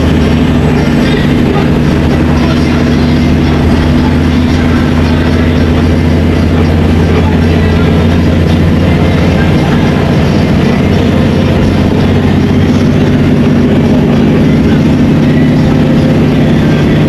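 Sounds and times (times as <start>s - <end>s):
coach engine droning: 0.0s - 17.0s
tyre and road noise: 0.0s - 17.0s.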